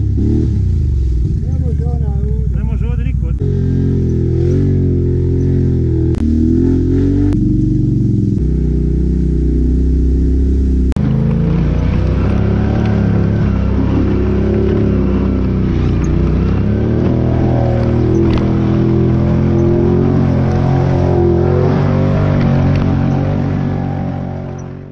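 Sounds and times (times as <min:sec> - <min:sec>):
atv engines revving: 0:00.0 - 0:24.9.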